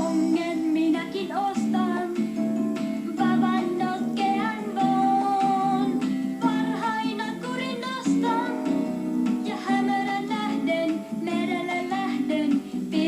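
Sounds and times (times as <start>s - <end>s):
acoustic guitar strumming: 0.0s - 12.8s
person singing: 0.0s - 13.0s.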